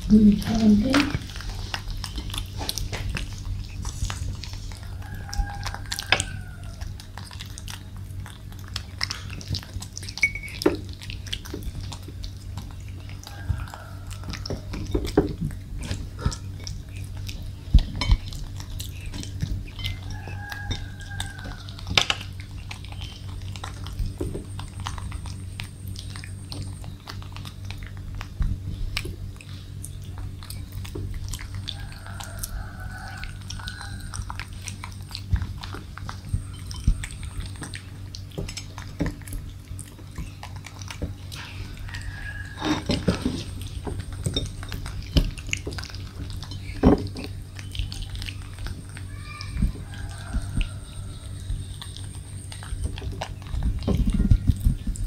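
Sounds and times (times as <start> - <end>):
monkeys chewing with wet smacking: 0.0 - 55.0.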